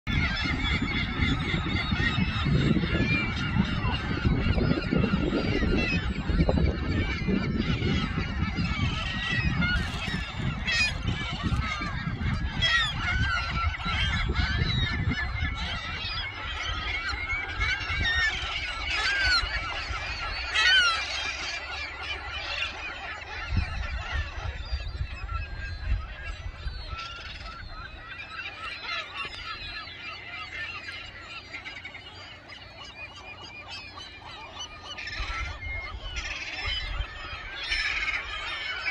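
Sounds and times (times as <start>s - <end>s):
gulls squawking: 0.1s - 38.9s.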